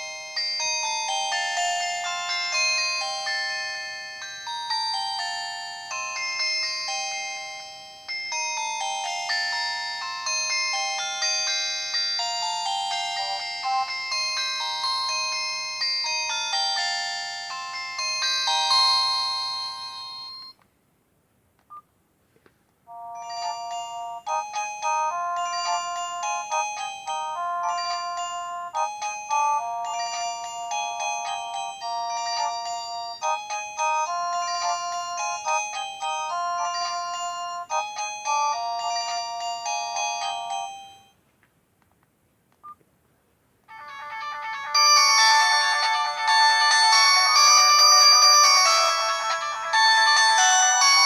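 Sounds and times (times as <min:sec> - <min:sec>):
phone ringtone melody: 0:00.0 - 0:20.5, 0:22.9 - 0:41.2, 0:43.7 - 0:51.0.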